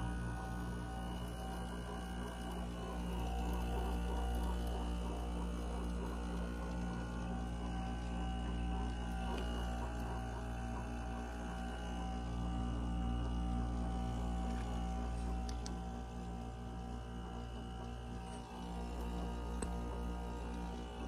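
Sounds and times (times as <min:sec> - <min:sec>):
compressor hum: 0:00.0 - 0:21.0.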